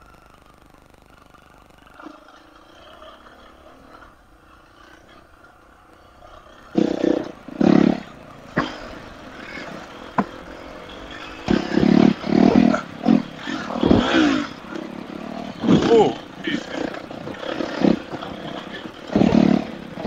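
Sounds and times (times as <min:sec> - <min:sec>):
dirt bike engine revving: 0:01.8 - 0:20.0.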